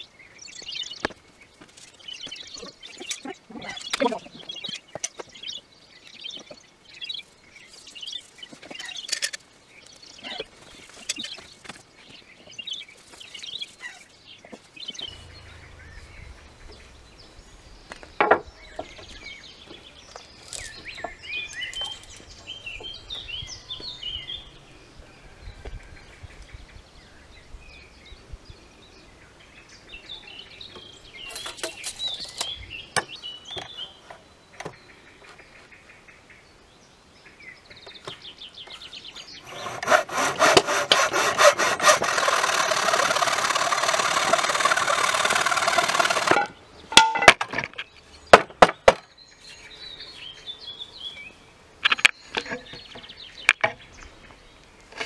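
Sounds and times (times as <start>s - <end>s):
small birds chirping: 0.0s - 24.8s, 25.9s - 46.9s, 49.0s - 55.0s.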